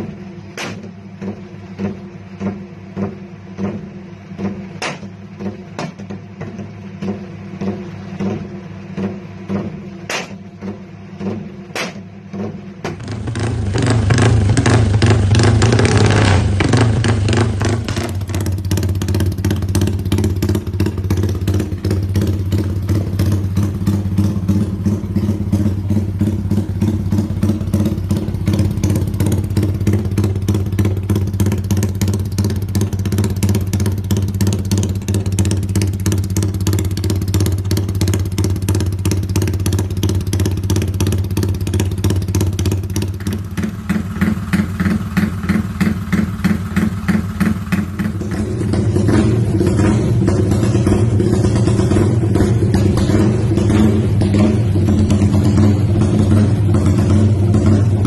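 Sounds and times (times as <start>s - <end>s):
motorcycle engine lumpy idle: 0.0s - 58.0s.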